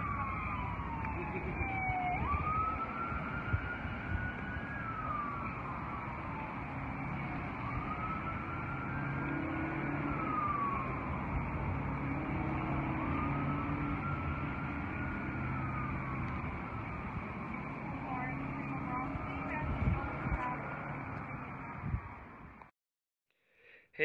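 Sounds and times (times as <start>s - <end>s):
siren wailing: 0.0s - 22.1s.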